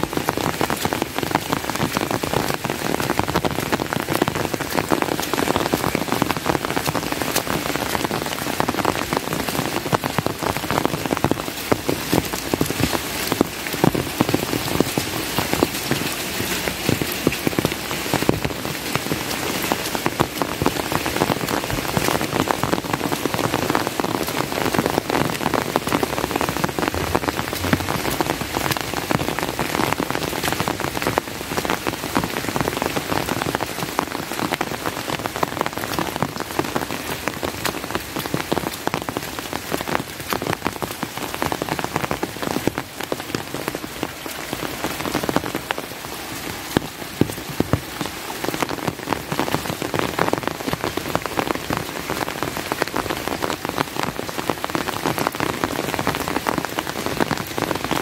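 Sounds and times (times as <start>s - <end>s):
raindrops striking nearby: 0.0s - 58.0s
steady rain: 0.0s - 58.0s.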